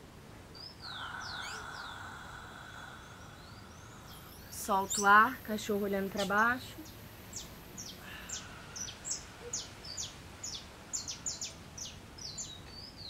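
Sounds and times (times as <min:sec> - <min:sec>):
background hiss: 0:00.0 - 0:13.0
small birds chirping: 0:00.5 - 0:13.0.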